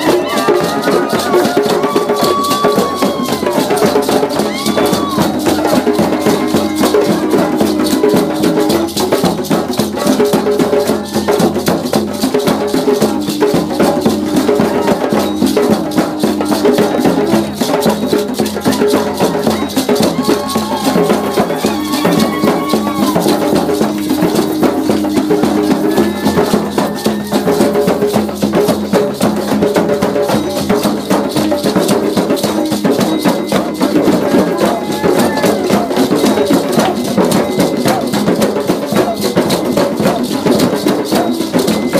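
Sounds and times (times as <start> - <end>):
hand drumming on frame drums: 0.0 - 41.9.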